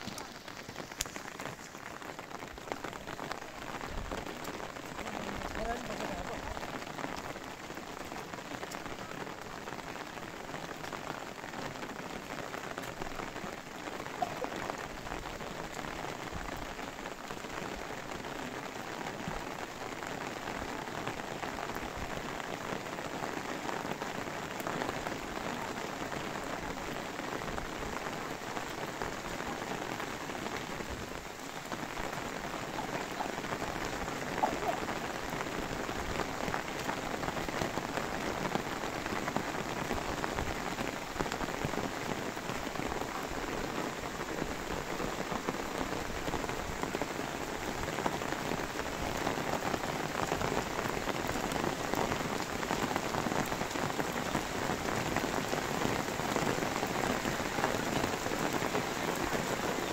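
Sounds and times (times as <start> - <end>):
rain on umbrella: 0.0 - 59.9.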